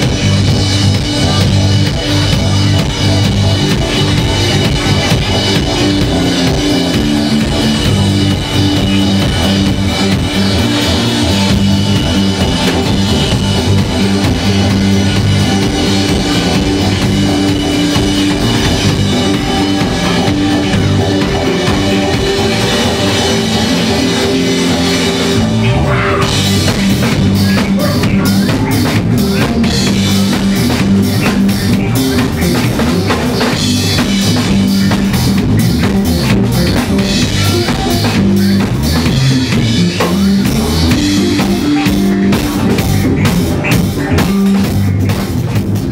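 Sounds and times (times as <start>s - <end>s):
electronic band music: 0.0s - 45.9s.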